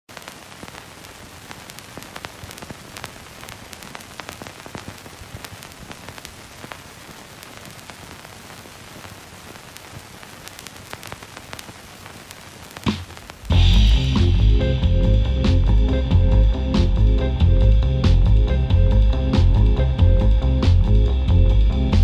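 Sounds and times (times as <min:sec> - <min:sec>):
film soundtrack hiss and crackle: 0:00.1 - 0:22.0.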